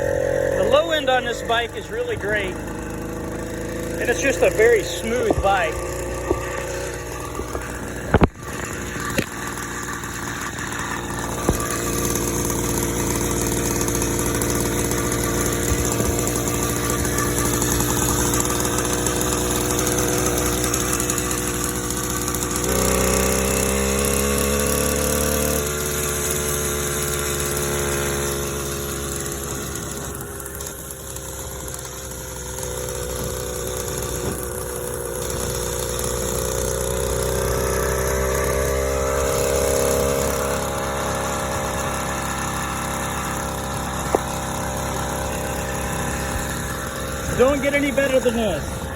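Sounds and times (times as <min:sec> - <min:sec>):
small bicycle engine running: 0:00.0 - 0:48.9.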